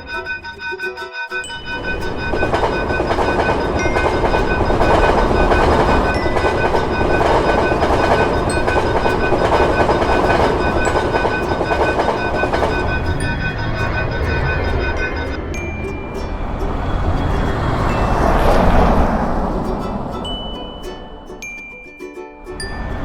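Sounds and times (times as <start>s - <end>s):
crossing warning bell ringing: 0.0s - 23.0s
train rolling past: 0.0s - 23.0s.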